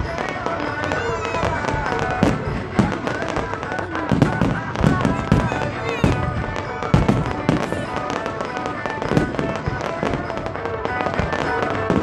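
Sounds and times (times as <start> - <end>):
fireworks bangs: 0.0 - 12.0
music: 0.0 - 12.0.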